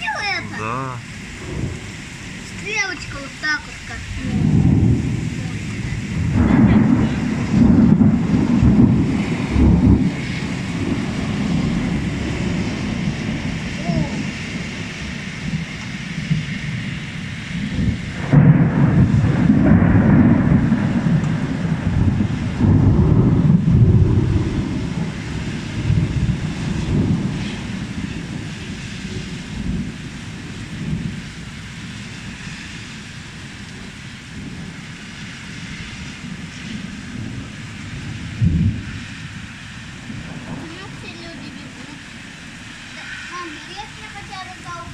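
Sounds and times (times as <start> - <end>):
heavy rain hiss: 0.0 - 44.9
rolling thunder: 0.2 - 44.9.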